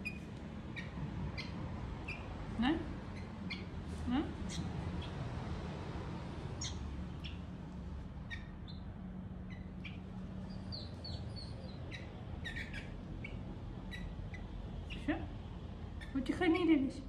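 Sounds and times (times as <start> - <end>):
fledgling birds chirping: 0.0 - 3.8, 4.4 - 5.6, 6.2 - 16.2
steady low hum: 0.0 - 17.0.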